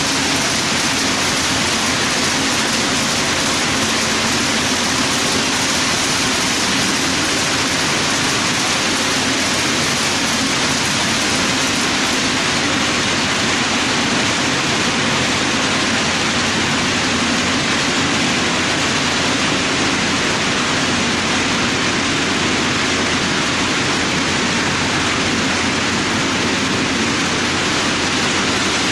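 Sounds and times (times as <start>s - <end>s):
model train rolling on track: 0.0s - 28.9s.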